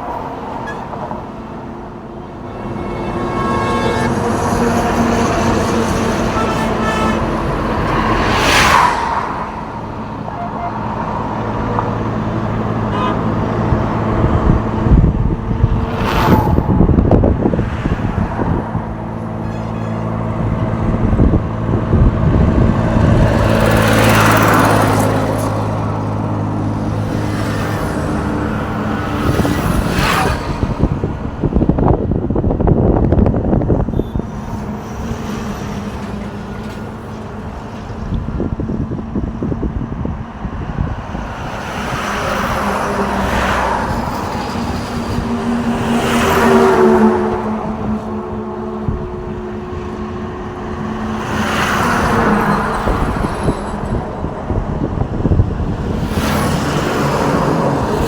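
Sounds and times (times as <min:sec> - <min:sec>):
big engine droning: 0:00.0 - 0:58.0
vehicles passing with whoosh: 0:00.0 - 0:58.0.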